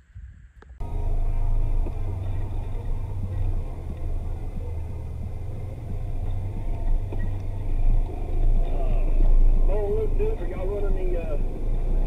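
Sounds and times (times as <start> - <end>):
vehicle engine droning: 0.8 - 12.0.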